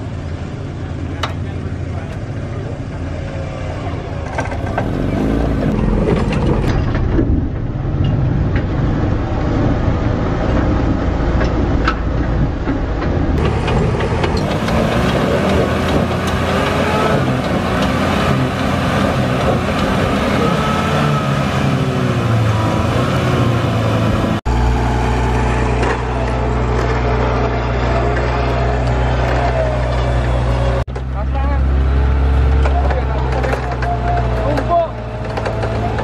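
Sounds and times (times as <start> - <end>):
engine running under load: 0.0 - 36.0
low engine hum: 0.0 - 36.0.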